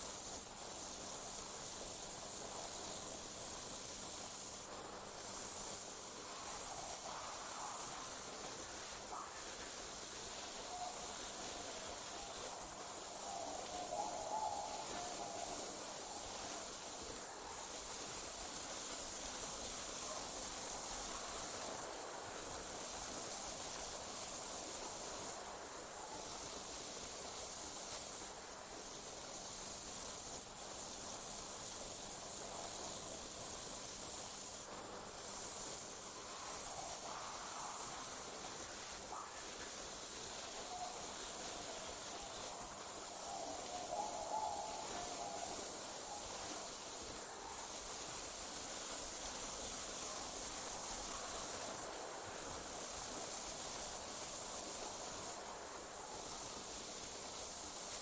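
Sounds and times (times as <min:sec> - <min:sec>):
crickets trilling: 0:00.0 - 0:58.0
soft night air hiss: 0:00.0 - 0:58.0.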